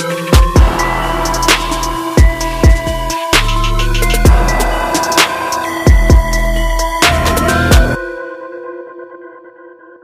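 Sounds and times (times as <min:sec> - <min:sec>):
electronic music with bass drum: 0:00.0 - 0:08.3.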